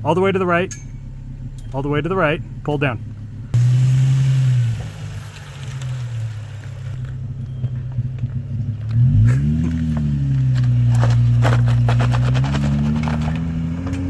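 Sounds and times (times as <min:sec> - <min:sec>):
car engine at low revs: 0:00.0 - 0:14.0.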